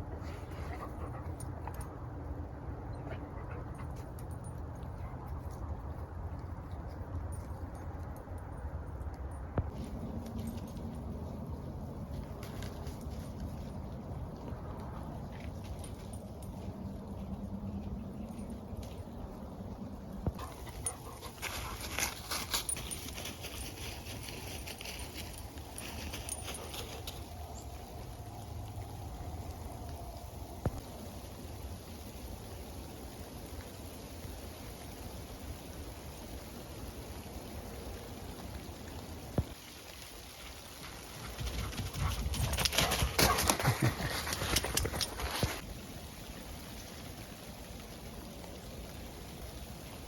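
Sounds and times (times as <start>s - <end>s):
faint outdoor background: 0.0s - 50.0s.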